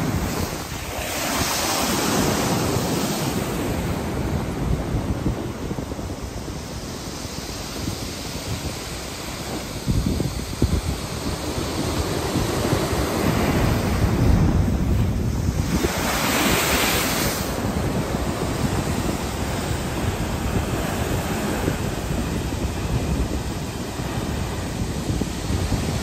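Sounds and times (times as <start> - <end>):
surf breaking and washing ashore: 0.0 - 26.0
wind rumbling on microphone: 0.0 - 26.0.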